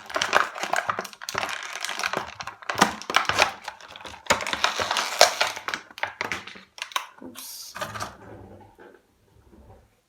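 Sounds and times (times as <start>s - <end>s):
crinkling: 0.0s - 8.8s.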